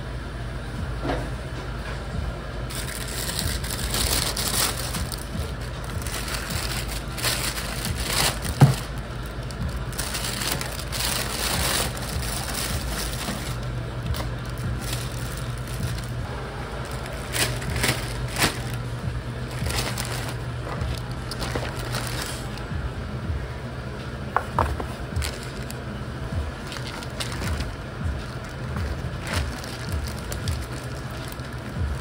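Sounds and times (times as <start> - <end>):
low steady hum: 0.0 - 32.0
plastic bags rustling: 2.7 - 22.8, 24.4 - 25.8, 26.4 - 32.0.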